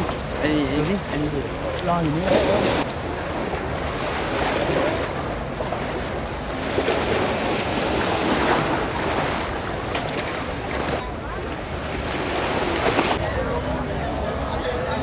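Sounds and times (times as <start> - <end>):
waves breaking on beach: 0.0 - 15.0.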